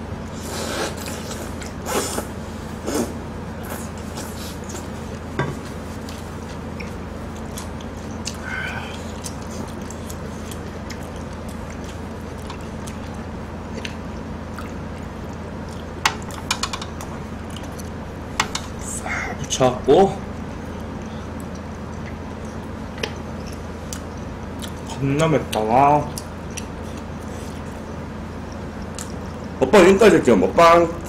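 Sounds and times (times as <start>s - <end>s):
steady low hum: 0.0s - 31.0s
faint chewing: 0.5s - 19.6s, 20.3s - 29.6s.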